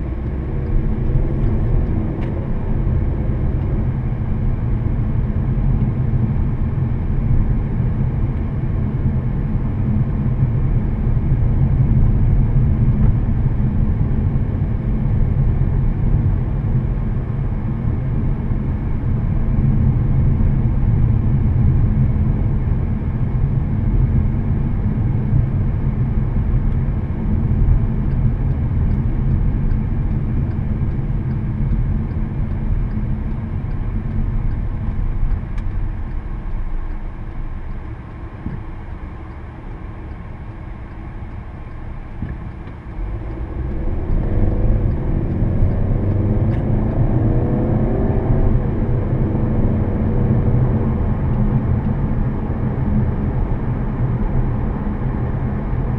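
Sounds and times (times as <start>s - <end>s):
car engine rumbling: 0.0s - 55.9s
road noise: 0.0s - 55.9s.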